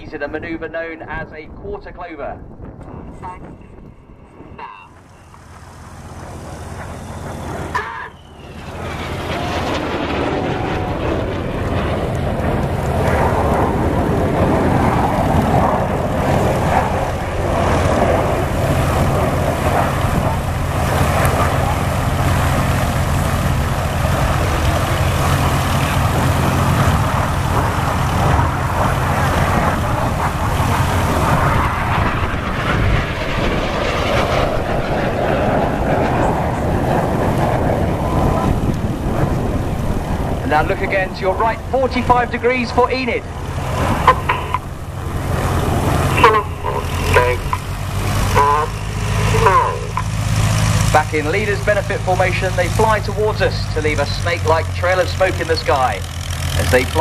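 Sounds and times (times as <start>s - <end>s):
jet roar: 0.0s - 57.0s.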